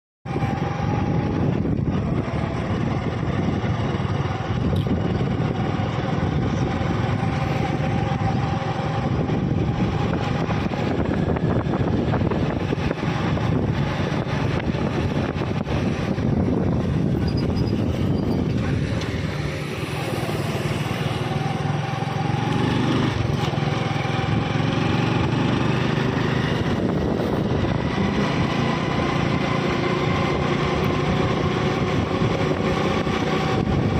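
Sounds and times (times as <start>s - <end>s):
small motorcycle engine running: 0.3s - 33.9s.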